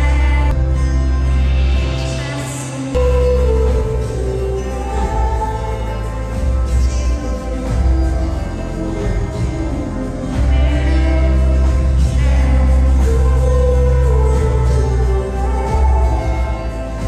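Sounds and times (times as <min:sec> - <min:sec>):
heavy sustained bass: 0:00.0 - 0:17.0
live band music: 0:00.0 - 0:17.0
person singing long notes: 0:01.7 - 0:17.0.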